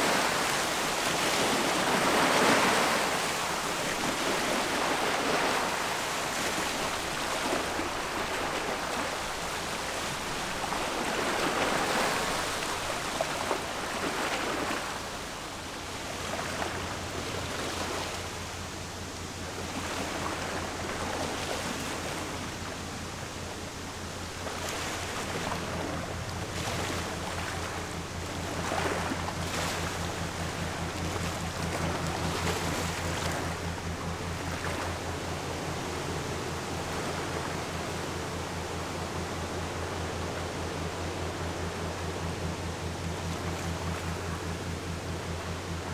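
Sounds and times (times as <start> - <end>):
bow wave breaking along hull: 0.0 - 45.9
ship engine pulsing hum: 0.0 - 45.9
water rushing: 0.0 - 45.9
wind: 0.0 - 45.9.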